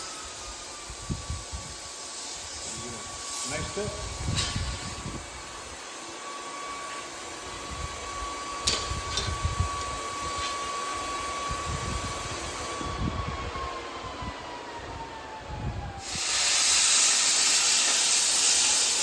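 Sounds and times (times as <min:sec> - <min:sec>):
plasma cutter hissing and whining: 0:00.0 - 0:13.0, 0:16.0 - 0:19.0.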